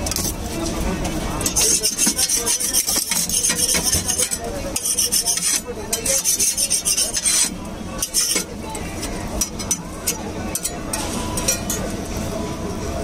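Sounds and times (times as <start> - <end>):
metal spoon scraping on bread: 1.4 - 11.8.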